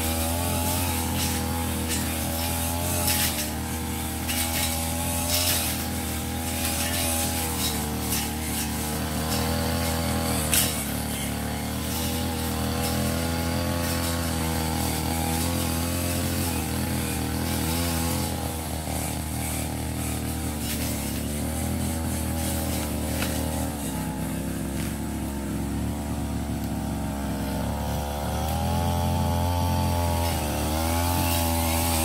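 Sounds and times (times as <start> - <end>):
brush cutter engine running: 0.0 - 32.0.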